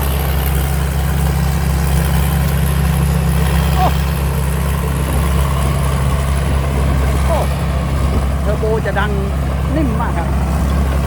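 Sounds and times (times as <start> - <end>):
combine harvester engine droning: 0.0 - 11.0.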